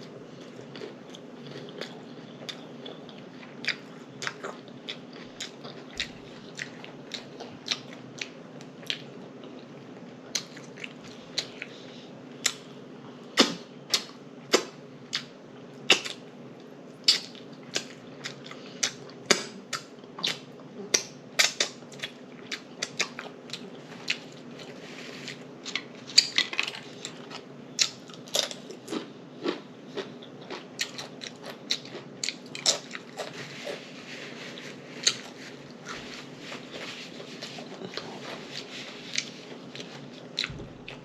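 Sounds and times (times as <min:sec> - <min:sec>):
chewing food: 0:00.0 - 0:41.0.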